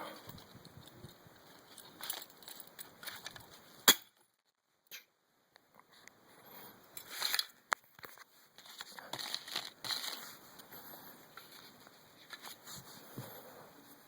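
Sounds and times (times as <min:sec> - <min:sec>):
crinkling rustles: 0:00.1 - 0:04.5, 0:05.8 - 0:14.0.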